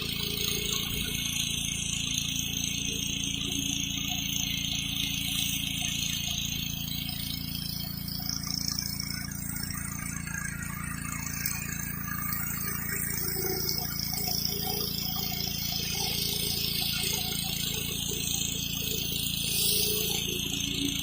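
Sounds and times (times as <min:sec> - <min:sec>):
pressure washer engine running: 0:00.0 - 0:21.0
water spray hissing on concrete: 0:00.0 - 0:21.0.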